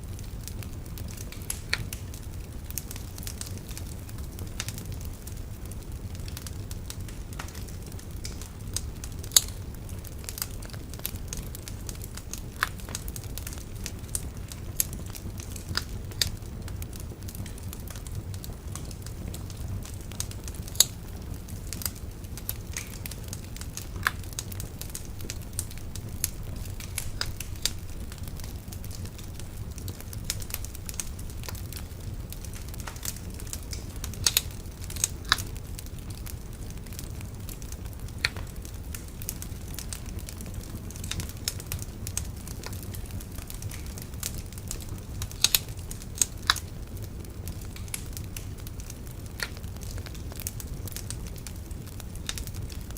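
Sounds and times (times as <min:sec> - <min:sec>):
bonfire crackling and popping: 0:00.0 - 0:52.9
low fire rumble: 0:00.0 - 0:52.9.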